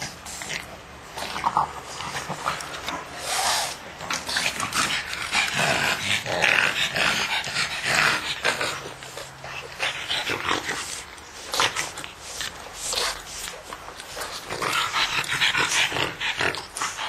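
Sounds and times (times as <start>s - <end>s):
puppies growling: 0.0s - 17.0s.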